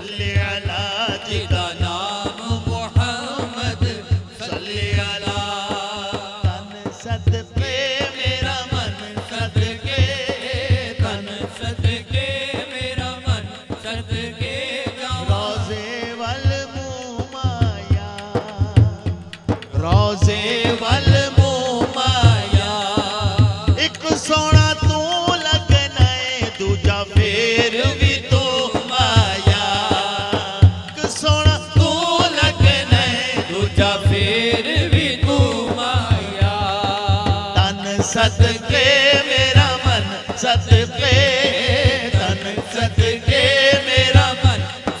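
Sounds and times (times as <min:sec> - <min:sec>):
low thumping beat: 0:00.0 - 0:45.0
man singing through pa system: 0:00.0 - 0:45.0
steady low drumbeat: 0:00.0 - 0:45.0.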